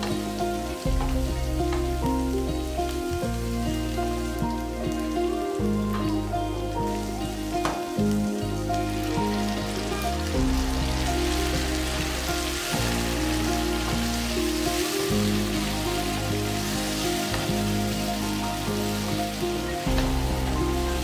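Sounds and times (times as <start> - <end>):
background music low notes: 0.0 - 21.0
sausage and onion sizzling: 0.0 - 21.0.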